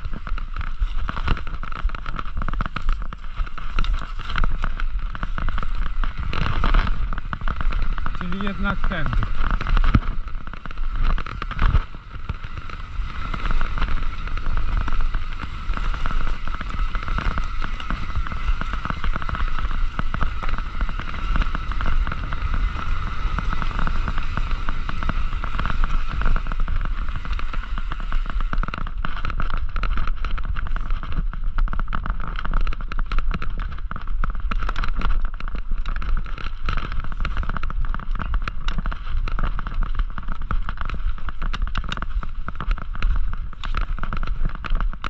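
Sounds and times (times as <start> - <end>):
bike tyres rattling on dirt: 0.0 - 45.0
wind on microphone: 0.0 - 45.0.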